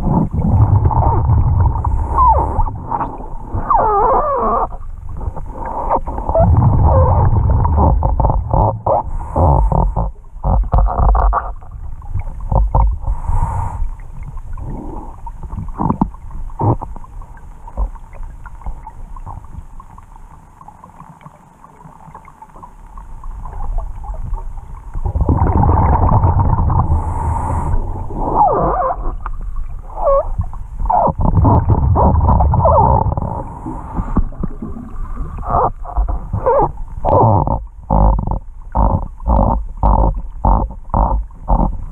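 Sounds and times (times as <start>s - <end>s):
underwater bubbles gurgling: 0.0s - 41.9s.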